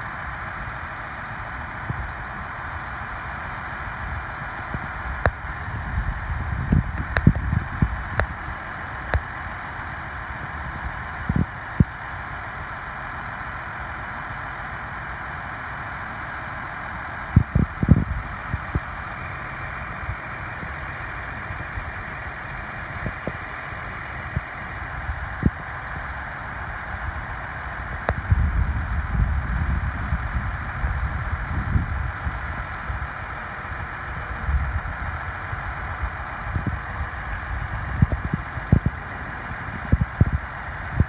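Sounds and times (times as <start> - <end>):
heavy farm machinery running: 0.0 - 41.0.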